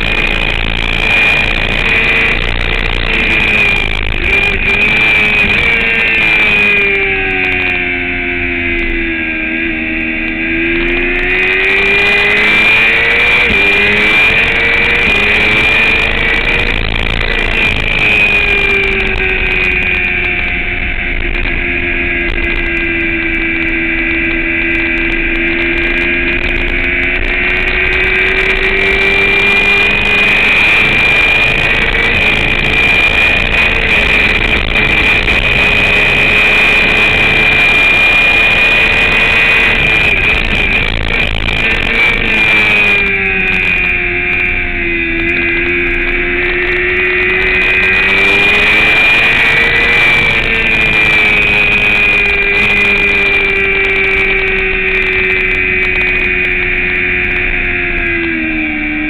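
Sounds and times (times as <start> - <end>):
motorcycle engine accelerating: 0.0 - 59.0
steady rushing noise: 0.0 - 59.0.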